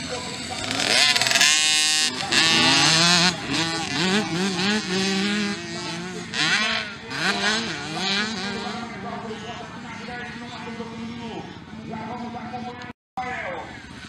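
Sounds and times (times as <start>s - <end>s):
two-stroke dirt bike engines revving: 0.0s - 12.4s.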